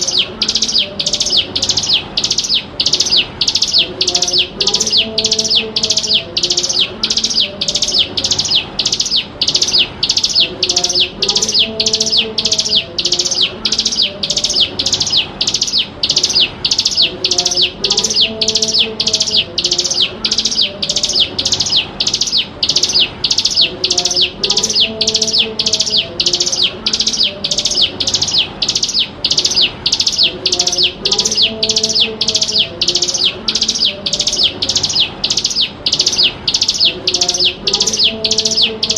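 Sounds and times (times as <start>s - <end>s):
bird chirping sharply: 0.0s - 38.9s.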